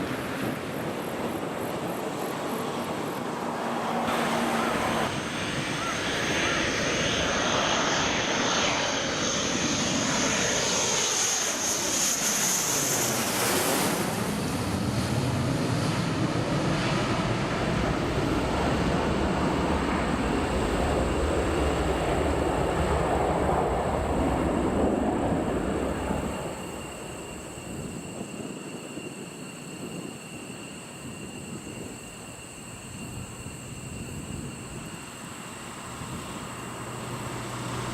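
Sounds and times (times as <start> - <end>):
jet roar with high whine: 0.0 - 37.9.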